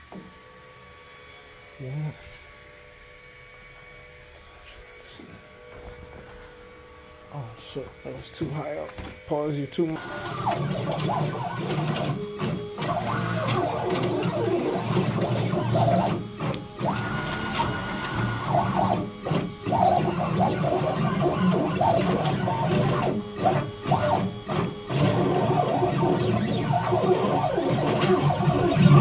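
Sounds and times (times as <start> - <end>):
stepper motors whirring: 4.8 - 29.0.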